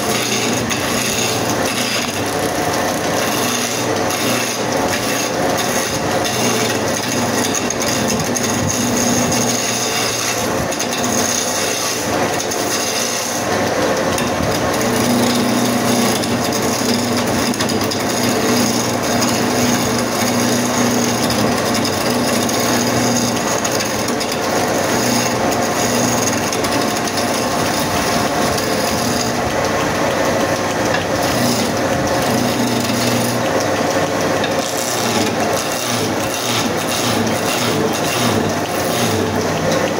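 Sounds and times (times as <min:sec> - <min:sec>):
chisel scraping wood: 0:00.0 - 0:39.9
lathe motor hum: 0:00.0 - 0:39.9.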